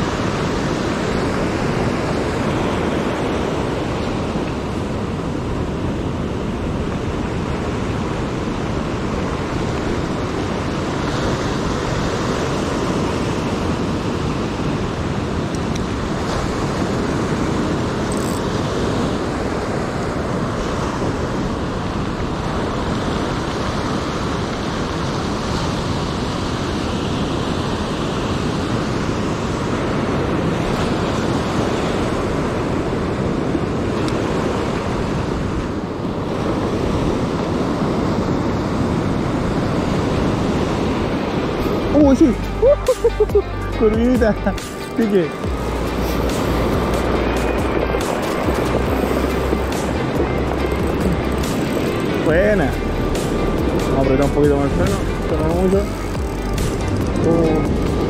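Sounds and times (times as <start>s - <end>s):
surf breaking on stony beach: 0.0s - 42.3s, 44.6s - 58.0s.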